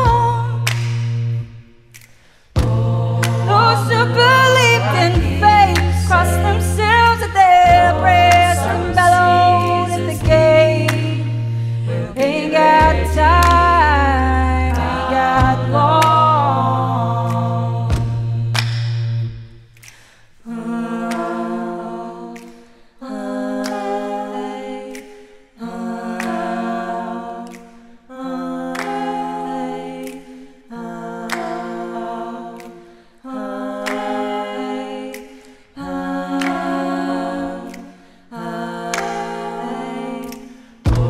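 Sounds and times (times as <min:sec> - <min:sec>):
vocal ensemble singing a cappella: 0:00.0 - 0:41.0.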